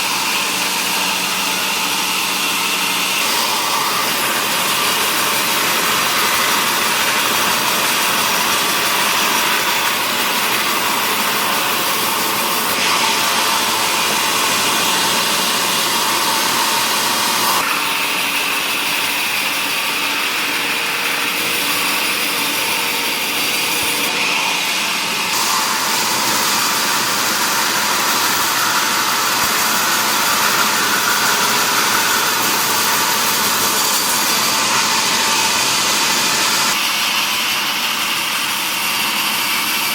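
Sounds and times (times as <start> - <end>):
woodworking machine whirring: 0.0 - 39.9.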